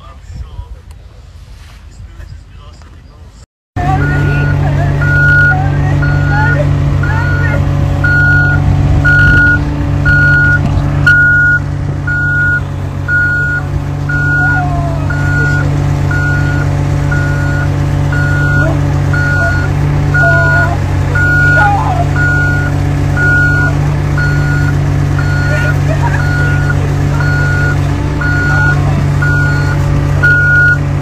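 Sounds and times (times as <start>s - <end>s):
low hum: 3.8s - 31.0s
electronic beep: 3.9s - 30.8s.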